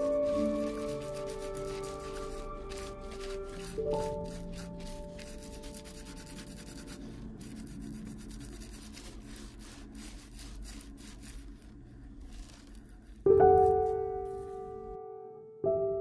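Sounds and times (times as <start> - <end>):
cloth scrubbing leather shoe: 0.0 - 14.0.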